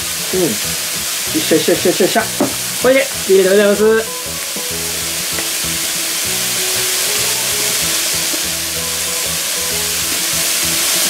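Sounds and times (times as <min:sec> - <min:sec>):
background music of low notes: 0:00.0 - 0:11.0
meat sizzling in oil: 0:00.0 - 0:11.0.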